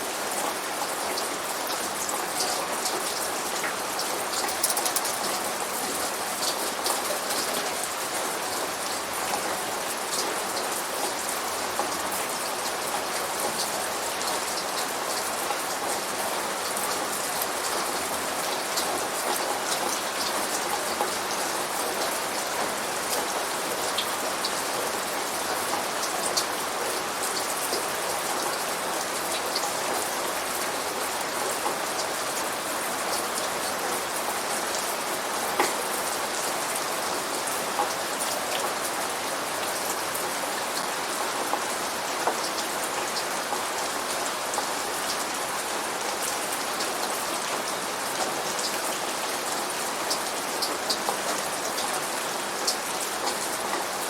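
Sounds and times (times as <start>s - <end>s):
steady rain hiss: 0.0s - 54.0s
raindrops ticking on a surface: 0.1s - 54.0s.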